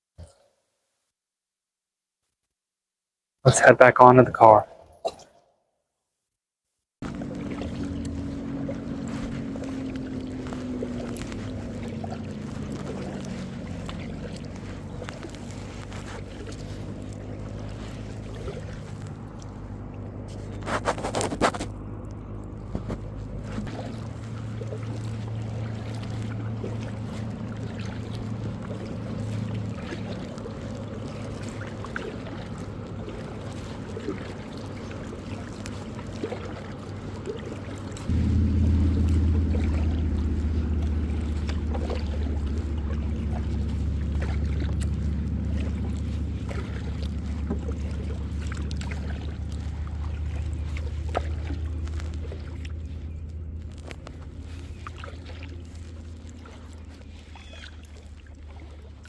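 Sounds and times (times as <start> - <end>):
steady low rumble: 7.0 - 36.1, 36.7 - 59.0
paddle strokes in water: 7.0 - 59.0.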